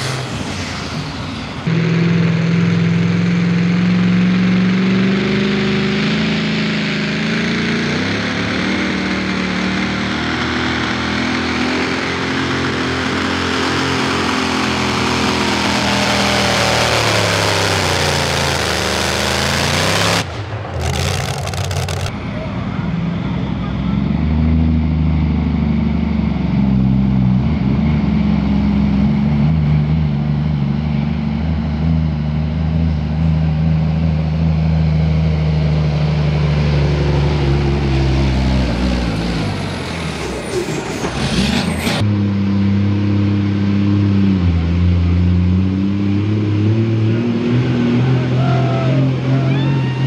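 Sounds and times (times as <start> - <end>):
truck diesel engine under load: 0.0 - 50.0.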